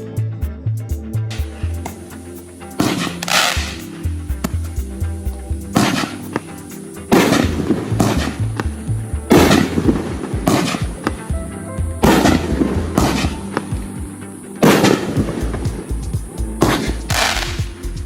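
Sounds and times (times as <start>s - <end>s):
music with stepping bass line: 0.0s - 18.0s.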